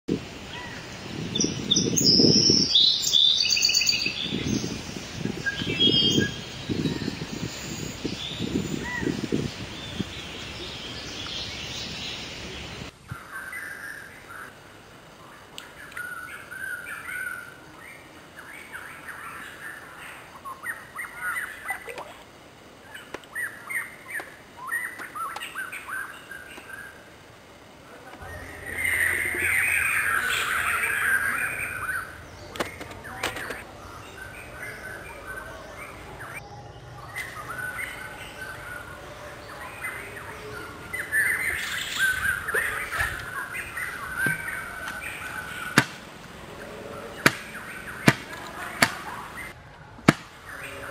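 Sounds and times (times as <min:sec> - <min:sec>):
wild birds chirping: 0:00.2 - 0:50.9.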